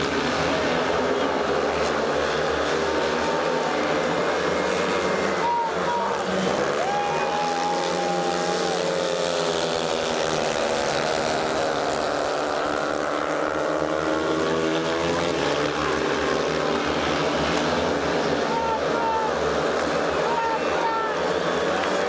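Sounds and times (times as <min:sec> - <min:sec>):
motorcycle engines racing: 0:00.0 - 0:22.0.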